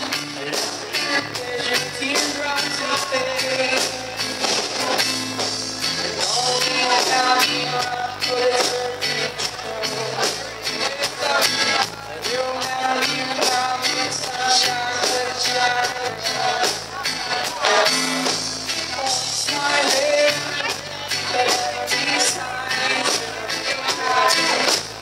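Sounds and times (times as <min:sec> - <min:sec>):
person singing: 0:00.0 - 0:25.0
reggae band playing: 0:00.0 - 0:25.0.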